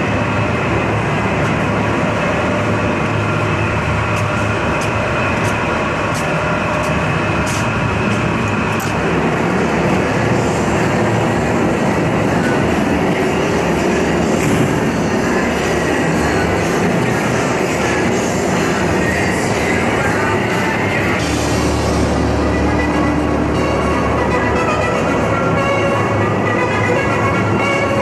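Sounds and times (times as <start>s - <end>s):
factory mechanical din: 0.0s - 28.0s.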